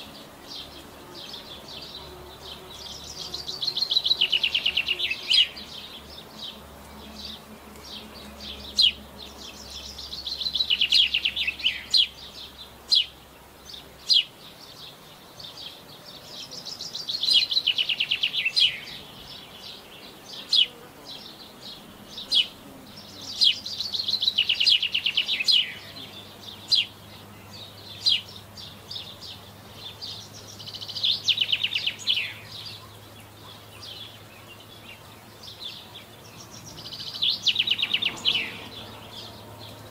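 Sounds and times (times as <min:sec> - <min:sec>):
songbird singing falling runs: 0:00.0 - 0:39.9.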